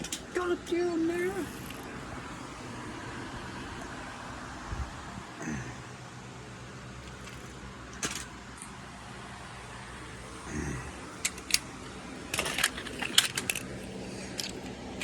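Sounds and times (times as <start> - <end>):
car cabin drone: 0.0 - 15.0.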